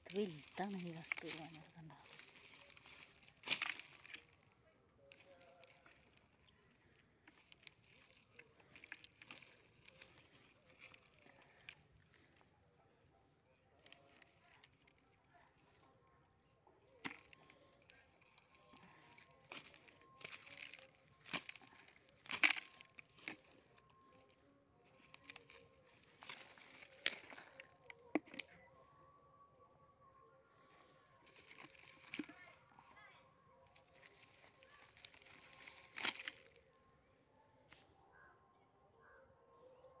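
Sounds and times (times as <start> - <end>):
faint high chirps: 0.1 - 40.0.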